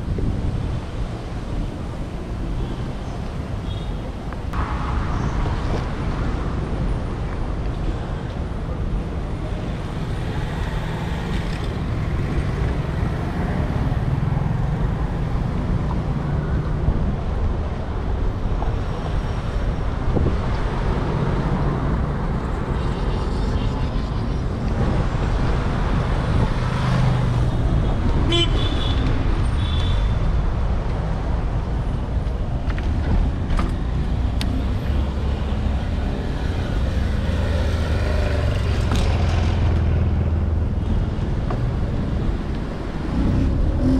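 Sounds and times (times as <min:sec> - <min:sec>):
vehicles passing on city street: 0:00.0 - 0:43.9.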